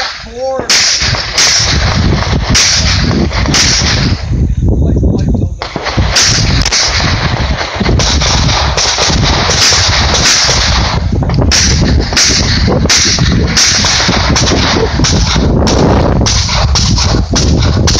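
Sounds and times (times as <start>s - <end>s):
pistol shots: 0.0s - 4.3s, 5.6s - 17.9s.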